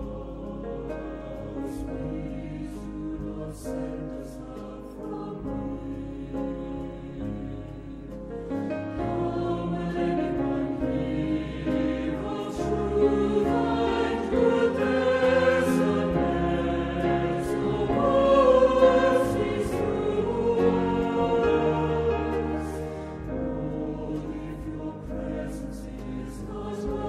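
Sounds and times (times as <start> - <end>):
group singing a hymn: 0.0 - 27.0.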